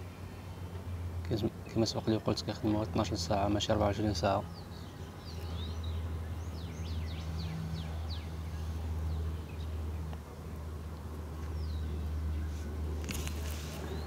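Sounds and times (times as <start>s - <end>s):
small birds chirping: 0.4s - 14.0s.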